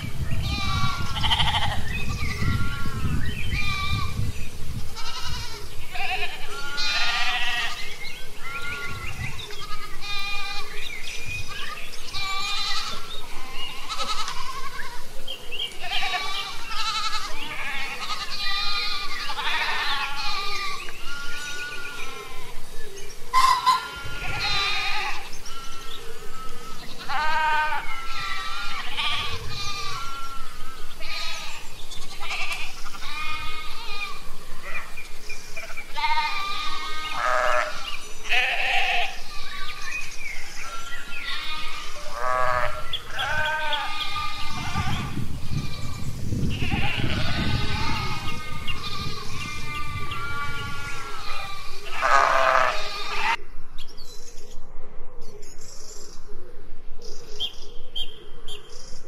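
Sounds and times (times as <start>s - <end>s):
goats and sheep bleating: 0.3s - 4.2s, 4.9s - 22.6s, 23.3s - 53.4s.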